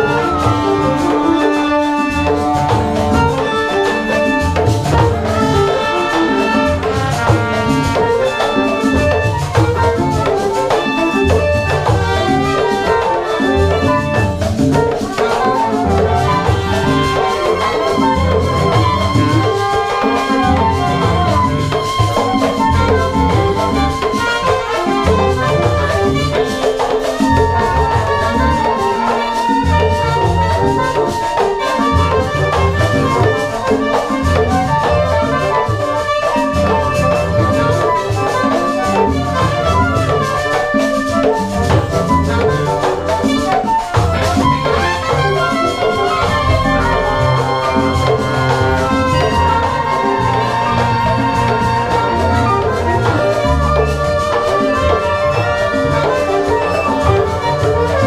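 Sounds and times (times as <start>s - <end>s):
flute horns and strings: 0.0s - 58.0s
hand drums rhythm: 0.0s - 58.0s.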